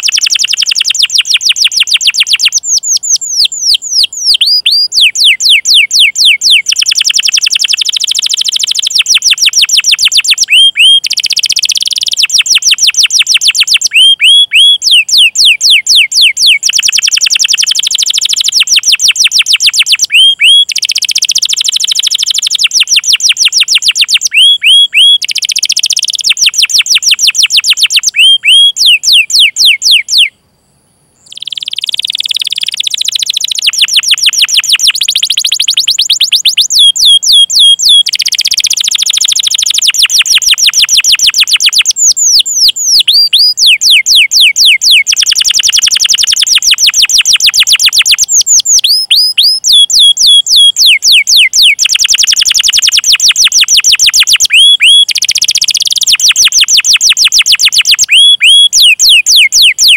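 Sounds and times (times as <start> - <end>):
canary chirping in rolling runs: 0.0 - 30.3, 31.2 - 59.9.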